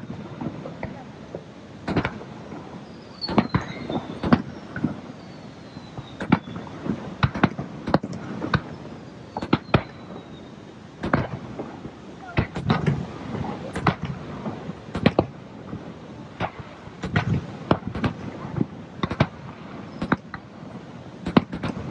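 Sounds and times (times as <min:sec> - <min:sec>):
fireworks bangs: 0:00.0 - 0:21.9
fireworks fizzing: 0:00.0 - 0:21.9.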